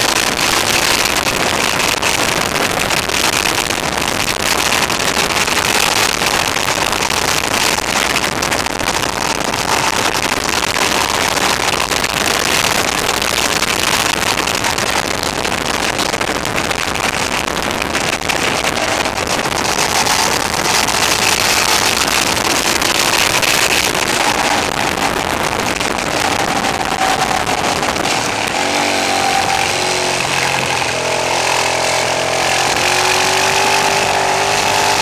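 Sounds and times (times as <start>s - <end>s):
motorcycle engine running: 0.0s - 35.0s
wind on microphone: 0.0s - 35.0s.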